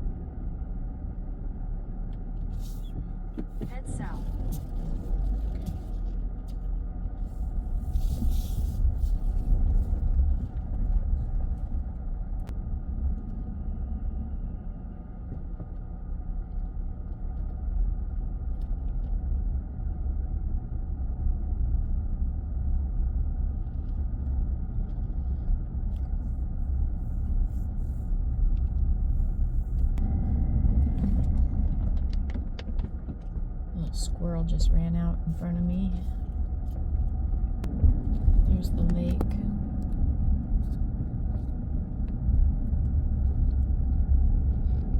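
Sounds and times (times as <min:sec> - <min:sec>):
faint steady hum: 0:00.0 - 0:44.9
road rumble inside vehicle: 0:00.0 - 0:44.9.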